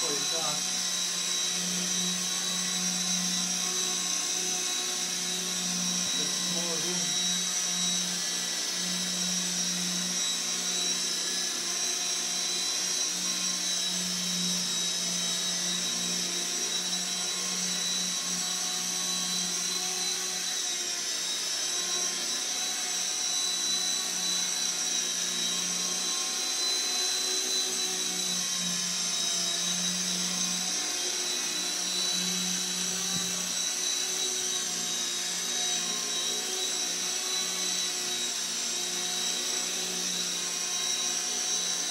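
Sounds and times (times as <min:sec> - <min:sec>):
motor and gears high whine: 0:00.0 - 0:41.9.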